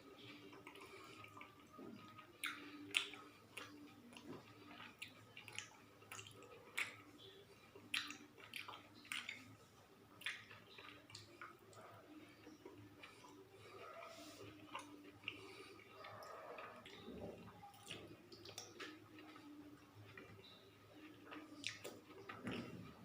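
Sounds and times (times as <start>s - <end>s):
person chewing: 0.1s - 23.0s
mouth smacks and clicks: 0.2s - 7.2s, 7.8s - 13.8s, 14.4s - 19.5s, 20.1s - 22.8s.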